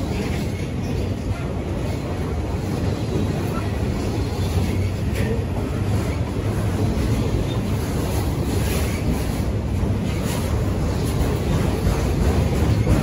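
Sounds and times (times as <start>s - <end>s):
freight cars rumbling on rails: 0.0s - 13.0s.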